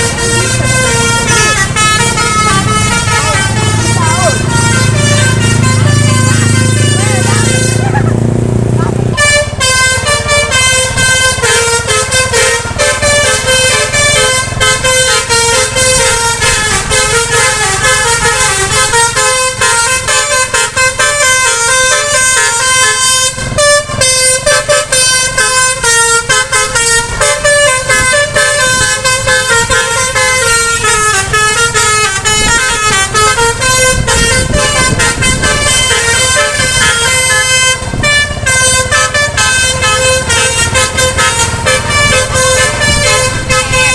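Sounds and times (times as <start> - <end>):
musical bus horn playing a tune: 0.0 - 43.9.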